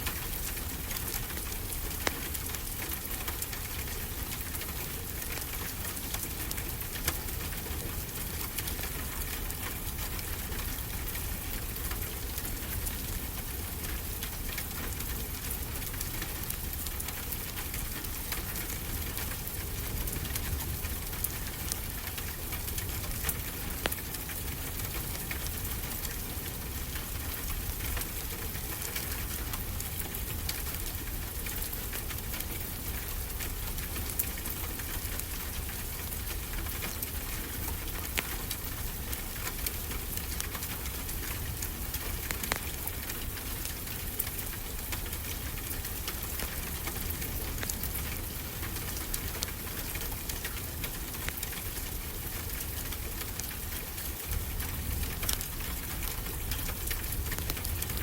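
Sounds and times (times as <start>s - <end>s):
steady rain falling: 0.0s - 58.0s
wood fire crackling: 0.0s - 58.0s.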